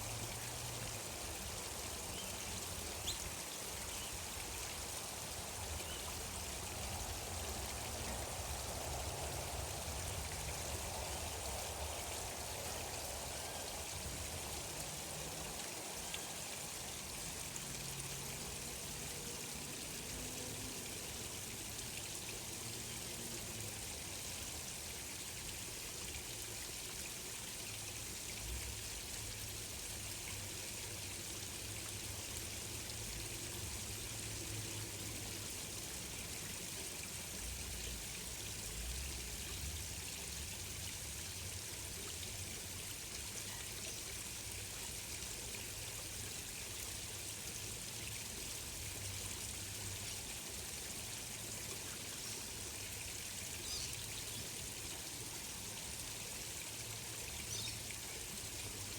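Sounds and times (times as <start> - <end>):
flowing stream water: 0.0 - 58.9.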